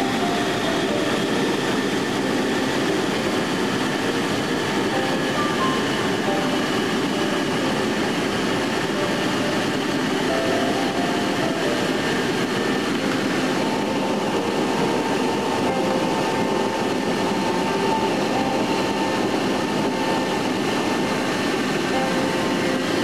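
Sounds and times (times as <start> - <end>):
jet engines droning: 0.0 - 23.0
rushing airflow: 0.0 - 23.0.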